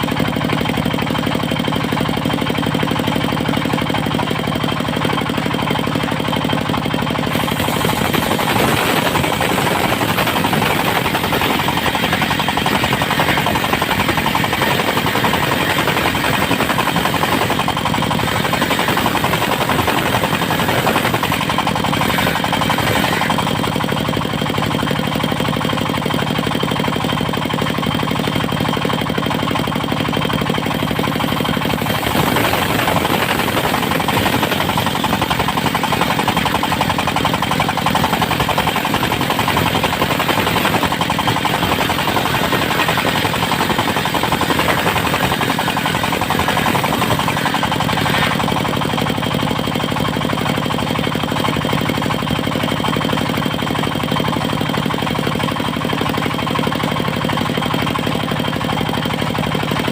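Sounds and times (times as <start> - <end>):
sawmill diesel engine running: 0.0 - 59.9.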